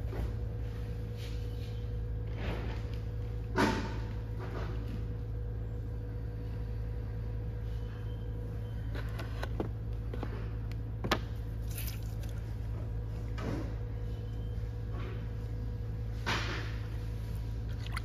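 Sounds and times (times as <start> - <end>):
pottery wheel motor hum: 0.0 - 18.0.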